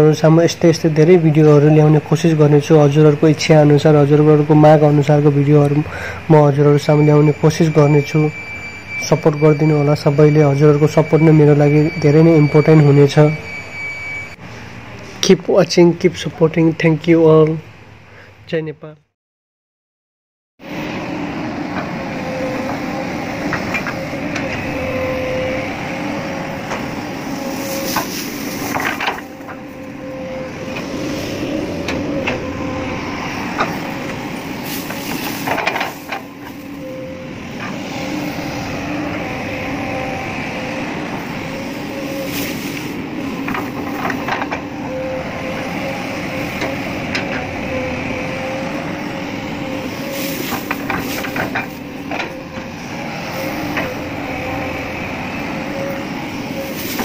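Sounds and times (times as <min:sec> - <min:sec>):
excavator engine running: 0:00.0 - 0:16.5, 0:20.6 - 0:57.0.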